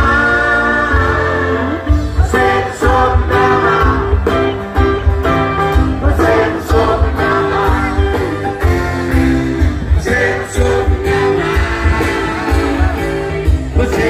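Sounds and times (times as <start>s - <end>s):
live rock band playing: 0.0s - 14.0s
heavy drum beat: 2.1s - 14.0s.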